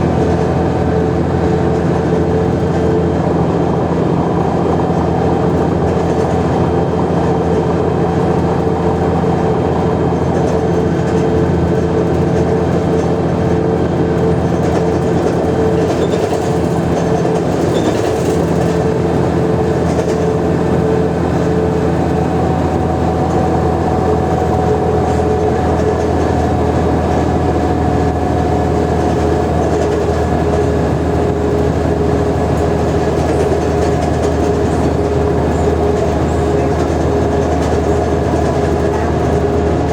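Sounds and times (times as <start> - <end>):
bus engine drone with whine: 0.0 - 39.9.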